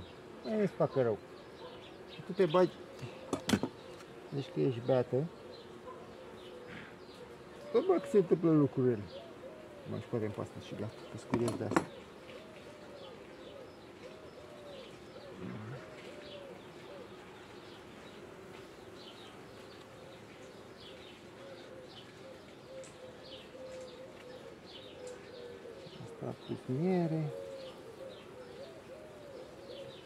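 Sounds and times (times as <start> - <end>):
honeybees buzzing: 0.0 - 30.0
small birds chirping: 0.0 - 30.0.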